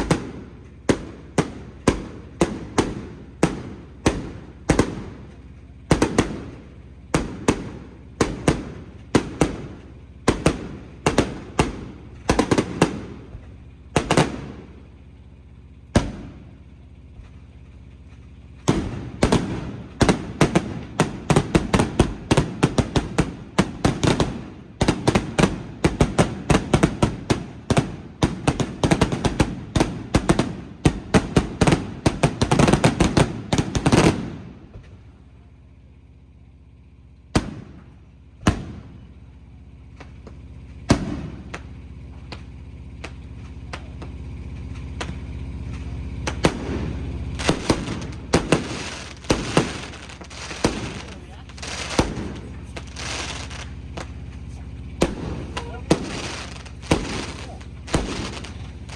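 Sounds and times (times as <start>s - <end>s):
fireworks bangs: 0.0s - 15.2s, 15.9s - 16.6s, 17.2s - 35.1s, 37.3s - 58.9s.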